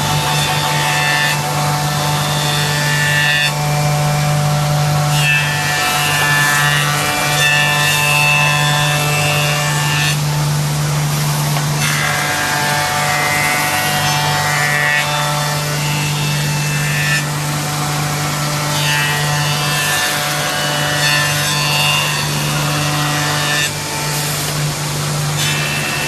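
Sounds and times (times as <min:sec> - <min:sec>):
cutters milling wood: 0:00.0 - 0:26.0
woodworking shaper machine hum: 0:00.0 - 0:26.0.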